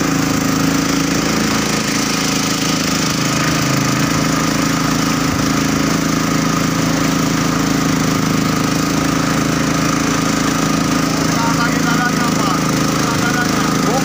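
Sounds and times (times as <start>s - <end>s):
motorboat engine chugging: 0.0s - 14.0s.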